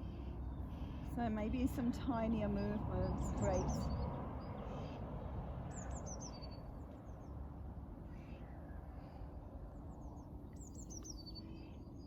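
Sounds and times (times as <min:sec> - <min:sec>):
songbird singing: 0:00.0 - 0:05.1, 0:05.7 - 0:07.4, 0:08.0 - 0:12.0.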